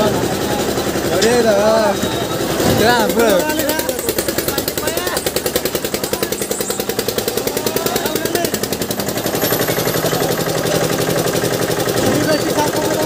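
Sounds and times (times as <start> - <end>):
faint voices: 0.0 - 13.0
fast mechanical clatter of ride: 0.0 - 13.0.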